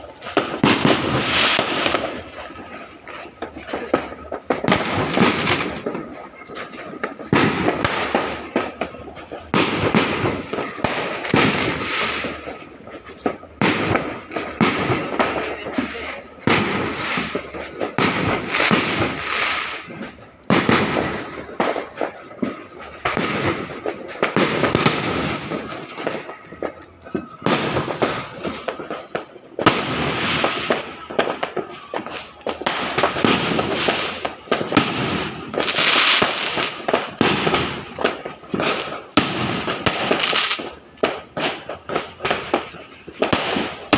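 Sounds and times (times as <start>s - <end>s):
firecrackers and fireworks bursting: 0.0s - 43.9s.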